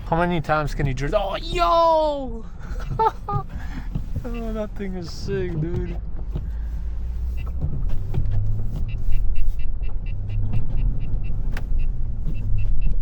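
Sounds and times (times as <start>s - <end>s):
truck engine running inside cab: 0.0s - 13.0s.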